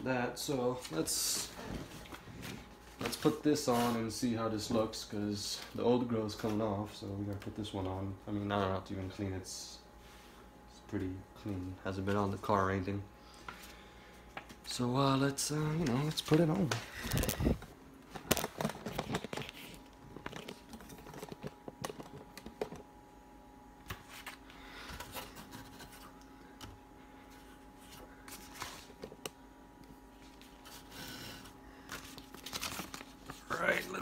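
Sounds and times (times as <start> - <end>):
faint room hum: 0.0 - 34.0.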